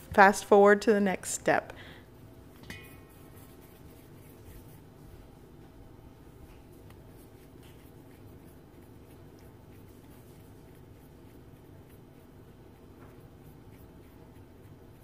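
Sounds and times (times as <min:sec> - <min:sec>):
low steady hum: 0:00.0 - 0:15.0
hands rubbing and patting dough: 0:02.4 - 0:15.0.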